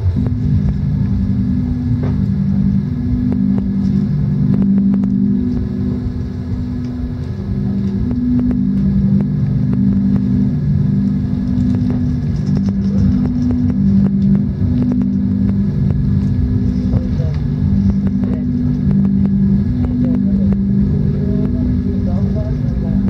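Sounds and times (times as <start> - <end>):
deep rumble: 0.0 - 23.0
low drone: 0.0 - 23.0.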